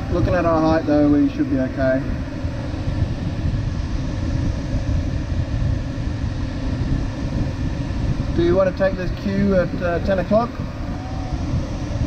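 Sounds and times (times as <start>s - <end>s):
rushing airflow in cockpit: 0.0s - 12.0s.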